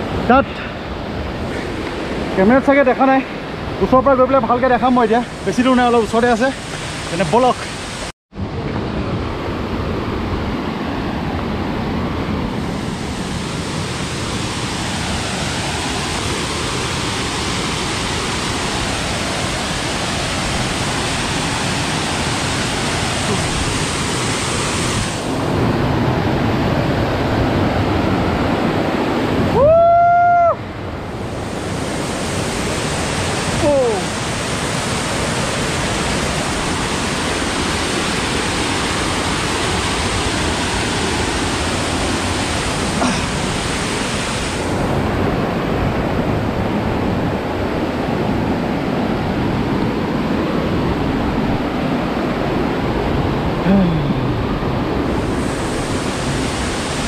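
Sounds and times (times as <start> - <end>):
waterfall rushing: 0.0 - 8.1, 10.8 - 57.0.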